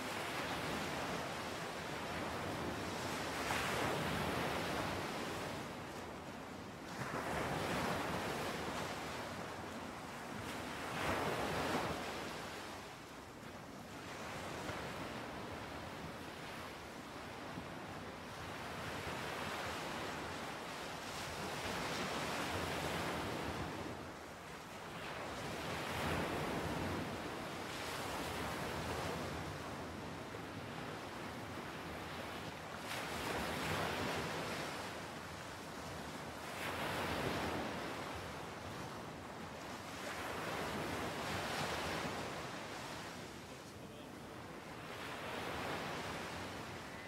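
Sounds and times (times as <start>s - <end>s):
ocean surf breaking on a beach: 0.0s - 47.0s.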